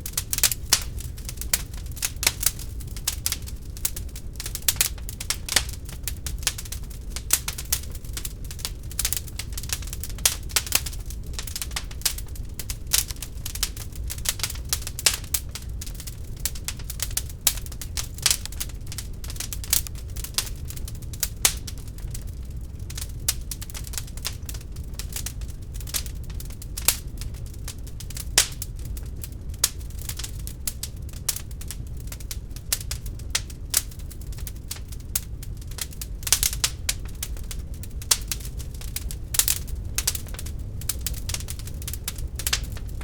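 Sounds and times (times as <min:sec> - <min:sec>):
low fire rumble: 0:00.0 - 0:43.0
wood fire crackling and popping: 0:00.0 - 0:43.0.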